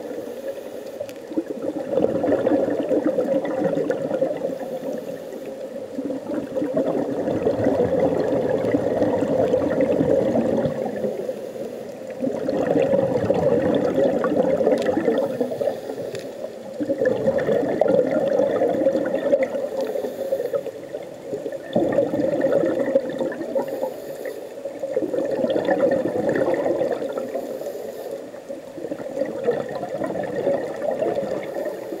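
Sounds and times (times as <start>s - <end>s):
underwater breathing bubbles: 0.0s - 32.0s.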